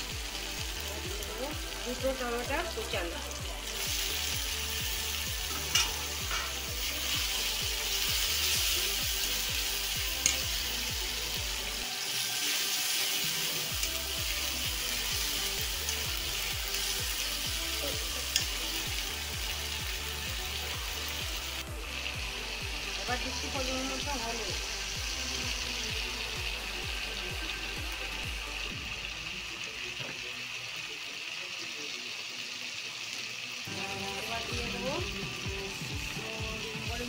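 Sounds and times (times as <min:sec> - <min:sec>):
tomatoes sizzling in hot fat: 0:00.0 - 0:37.0.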